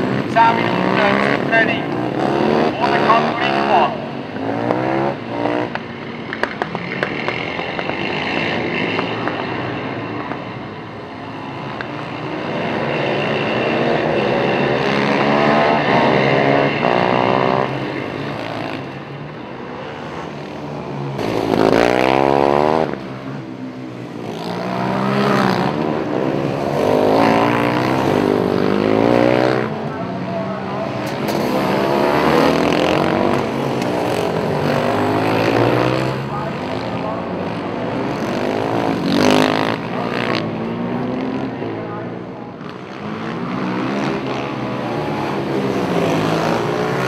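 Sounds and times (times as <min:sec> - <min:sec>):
racing quad engines revving: 0:00.0 - 0:47.0.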